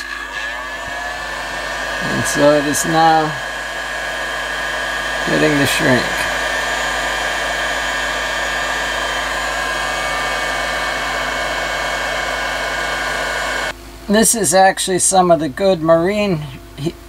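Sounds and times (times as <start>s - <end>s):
heat gun blowing hot air: 0.0s - 13.7s.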